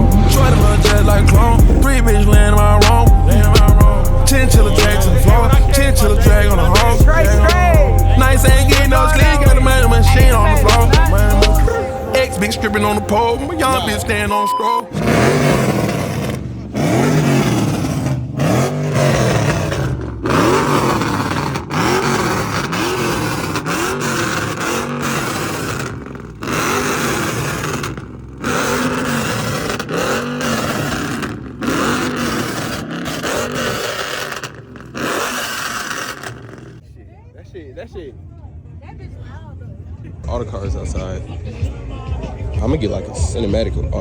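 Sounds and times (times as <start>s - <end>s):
car engine revving: 0.0s - 36.8s.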